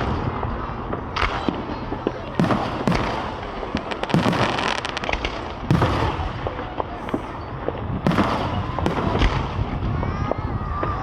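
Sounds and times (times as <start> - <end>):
firework bang with rumbling echo: 0.0 - 11.0
fireworks crackling pops: 0.0 - 11.0.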